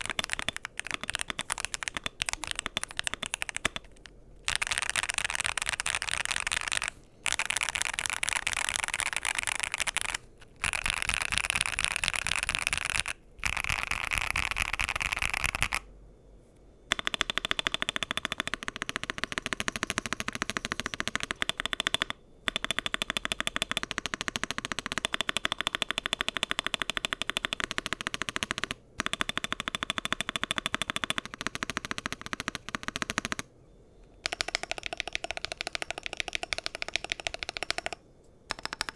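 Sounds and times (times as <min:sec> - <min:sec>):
mechanical keyboard typing: 0:00.0 - 0:15.9, 0:16.9 - 0:33.5, 0:34.2 - 0:38.9.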